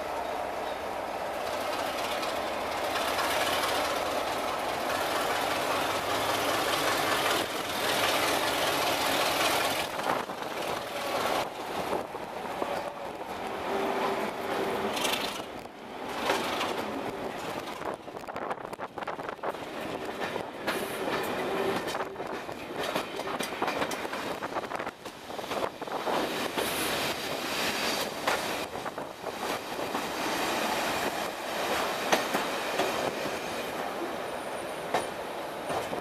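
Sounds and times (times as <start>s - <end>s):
diesel train running: 0.0s - 36.0s.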